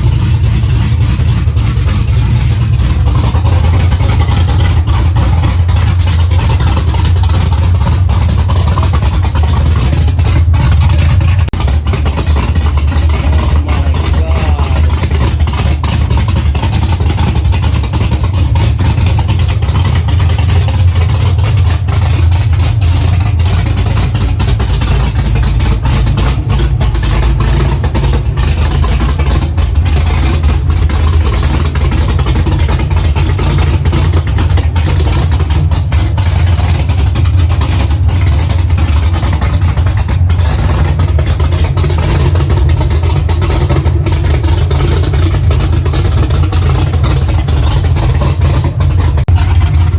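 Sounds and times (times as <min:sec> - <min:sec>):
car engine idling loudly: 0:00.0 - 0:49.9.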